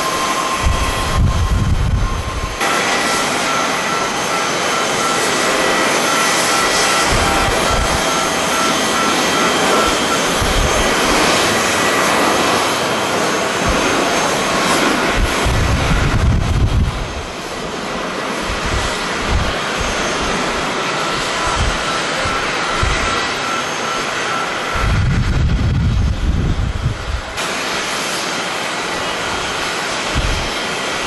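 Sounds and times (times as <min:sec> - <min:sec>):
jet engines at take-off power: 0:00.0 - 0:31.0
wind buffeting microphone: 0:00.3 - 0:03.2, 0:05.2 - 0:23.5, 0:24.6 - 0:27.4, 0:29.2 - 0:31.0.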